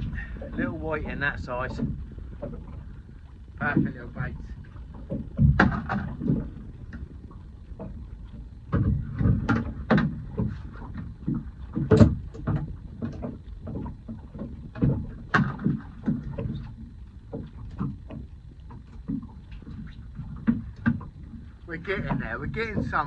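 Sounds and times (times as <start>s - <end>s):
low steady background noise: 0.0s - 23.0s.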